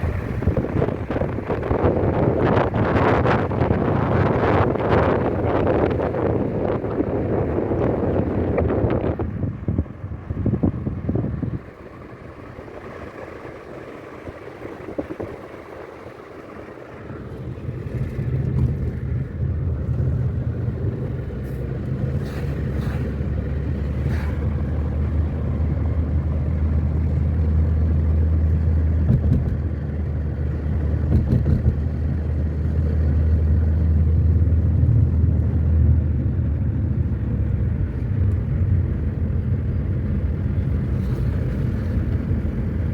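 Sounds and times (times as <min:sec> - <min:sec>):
car engine and road noise: 0:00.0 - 0:42.9
wind noise: 0:00.0 - 0:42.9.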